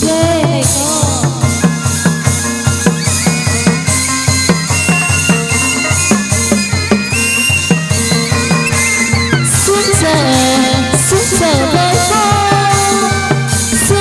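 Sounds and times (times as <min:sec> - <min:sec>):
held high melody line: 0:00.0 - 0:14.0
low drum beat: 0:00.0 - 0:14.0.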